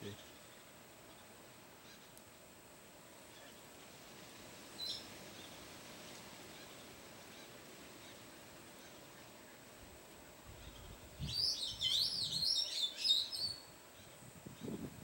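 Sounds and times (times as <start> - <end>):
faint outdoor bush ambience: 0.0 - 15.0.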